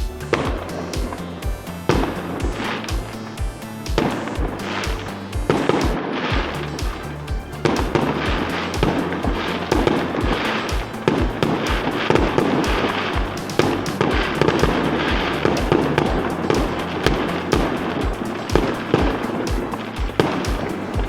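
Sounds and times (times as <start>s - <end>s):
fireworks bursting and crackling: 0.0s - 21.0s
music with bass beat: 0.0s - 21.0s.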